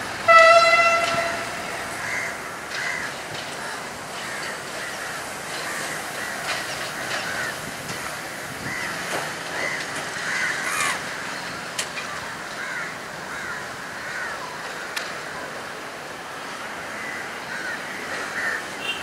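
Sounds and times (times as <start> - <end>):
diesel locomotive rumble: 0.0 - 19.0
crows cawing: 0.8 - 15.4, 16.9 - 19.0.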